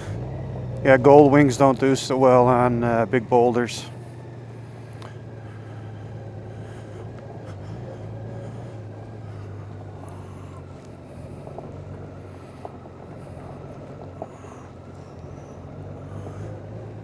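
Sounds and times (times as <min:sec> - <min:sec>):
motorcycle engine at low revs: 0:00.0 - 0:17.0
tyres rolling on gravel: 0:00.0 - 0:17.0.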